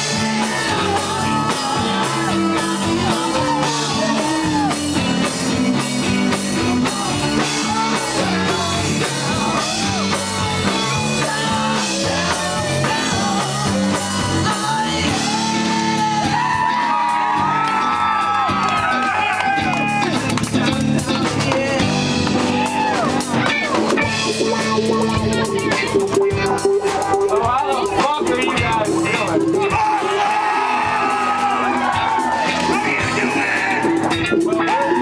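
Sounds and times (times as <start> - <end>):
drum kit beat: 0.0 - 35.0.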